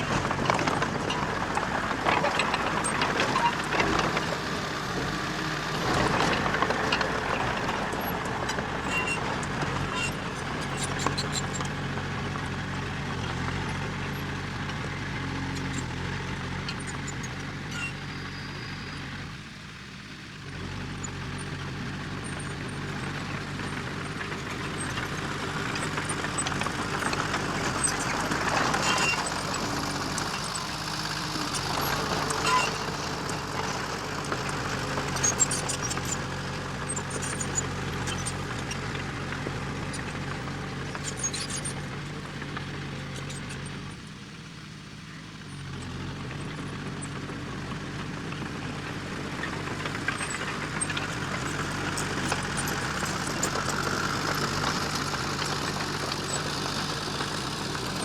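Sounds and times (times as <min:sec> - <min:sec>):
diesel engine under varying load: 0:00.0 - 0:58.0.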